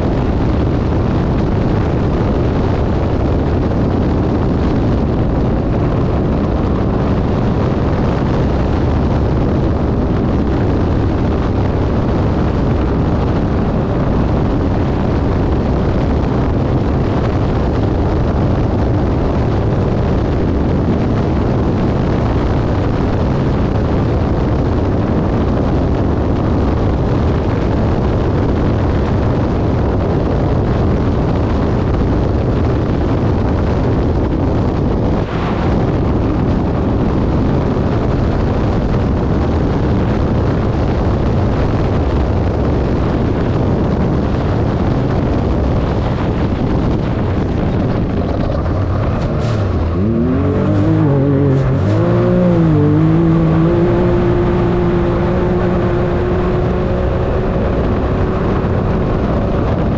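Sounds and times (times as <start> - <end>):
utv engine running hard: 0.0 - 59.9
wind buffeting microphone: 0.0 - 59.9.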